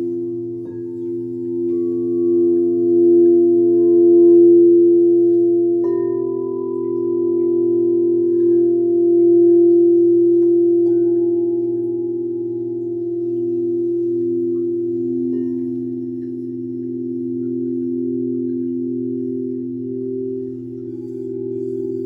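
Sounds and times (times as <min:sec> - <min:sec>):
bowl softly struck: 0:00.0 - 0:22.0
sound bowls ringing: 0:00.0 - 0:22.0.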